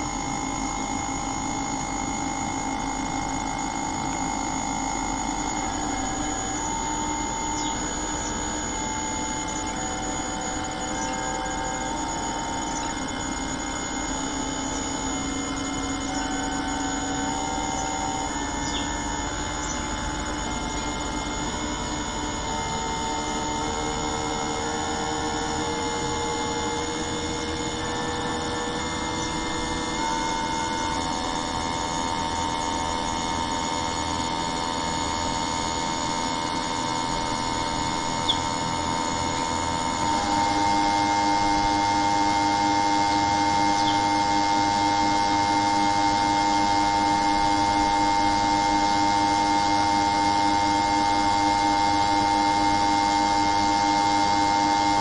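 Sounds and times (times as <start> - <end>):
machine whining: 0.0 - 55.0.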